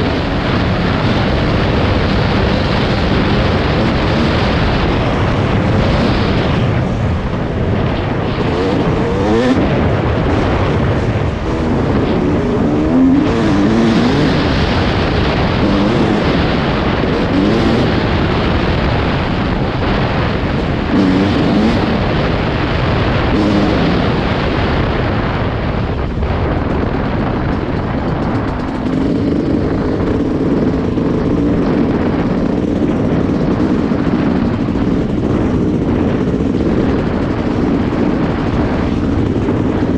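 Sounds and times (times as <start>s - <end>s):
dirt bike engine revving: 0.0s - 24.9s, 27.0s - 39.9s.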